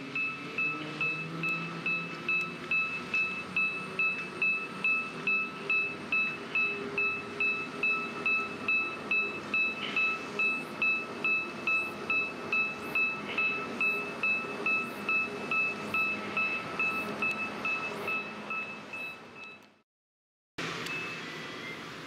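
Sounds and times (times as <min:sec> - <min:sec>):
low engine hum: 0:00.0 - 0:19.8
electronic warning beeper: 0:00.1 - 0:19.7.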